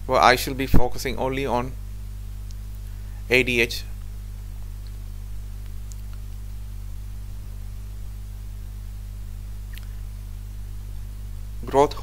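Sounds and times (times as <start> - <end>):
electrical hum: 0.0 - 12.0
low buzz and hiss: 0.0 - 12.0.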